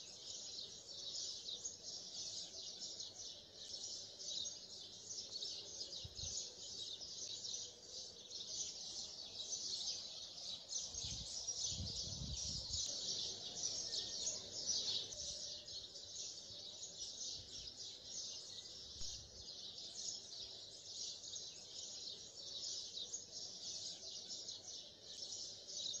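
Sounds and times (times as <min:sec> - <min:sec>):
chorus of birds chirping: 0:00.0 - 0:26.0.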